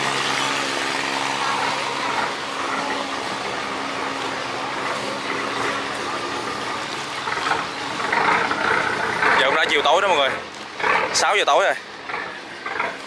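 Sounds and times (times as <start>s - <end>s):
diesel engine drone: 0.0s - 13.0s
water rushing along boat hull: 0.0s - 13.0s.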